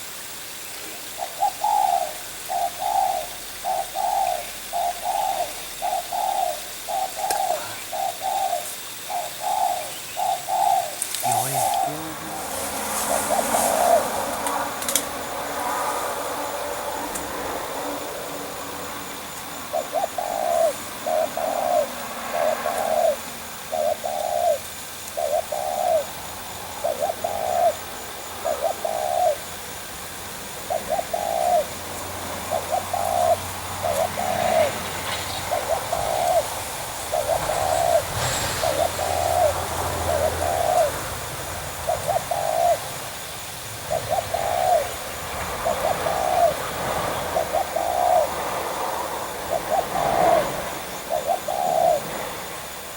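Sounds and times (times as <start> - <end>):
dove cooing: 0.9 - 52.4.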